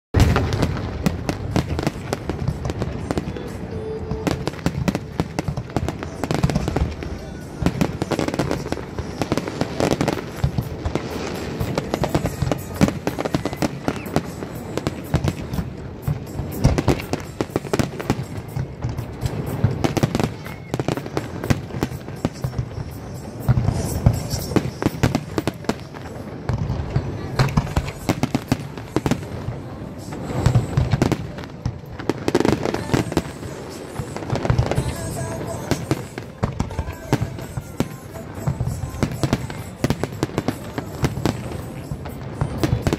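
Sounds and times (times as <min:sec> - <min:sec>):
fireworks bursting and crackling: 0:00.1 - 0:42.9.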